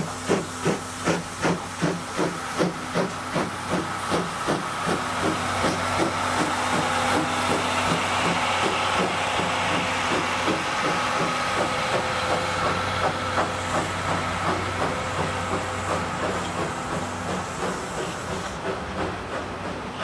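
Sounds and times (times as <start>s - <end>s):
rolling hiss and hum: 0.0s - 20.0s
train wheels clicking on rail joints: 0.0s - 20.0s.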